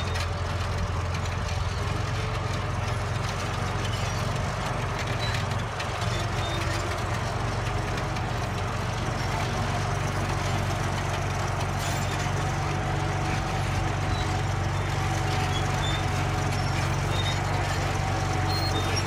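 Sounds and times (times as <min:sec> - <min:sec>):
bulldozer diesel engine: 0:00.0 - 0:19.0.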